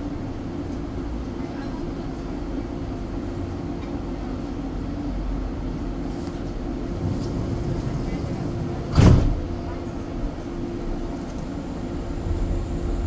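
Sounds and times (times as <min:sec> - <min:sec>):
railway car rumbling: 0:00.0 - 0:13.0.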